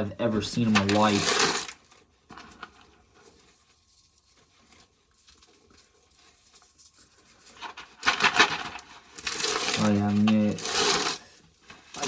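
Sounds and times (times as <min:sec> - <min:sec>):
corn husk rustling and tearing: 0:00.3 - 0:12.0.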